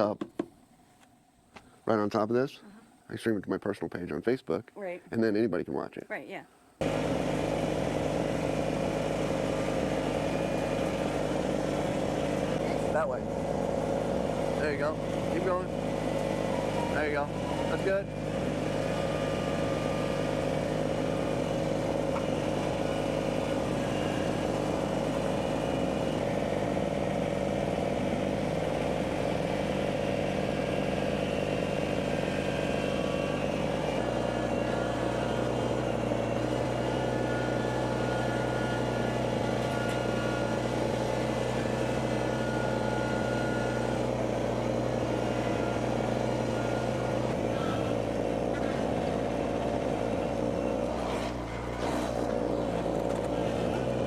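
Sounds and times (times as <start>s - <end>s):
vehicle engine running: 6.8s - 54.0s.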